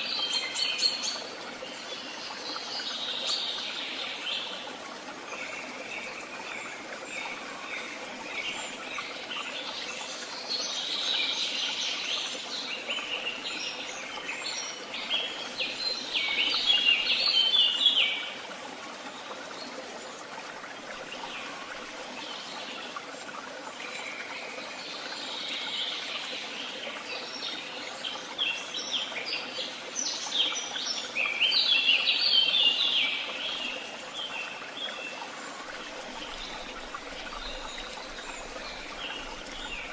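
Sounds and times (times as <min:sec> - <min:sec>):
songbirds singing: 0:00.0 - 0:23.0, 0:23.7 - 0:39.9.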